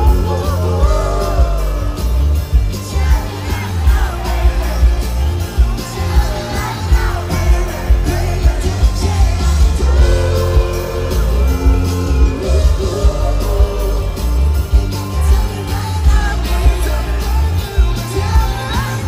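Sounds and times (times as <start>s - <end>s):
heavy bass: 0.0s - 19.0s
live pop band playing: 0.0s - 19.0s
person singing: 0.0s - 19.0s.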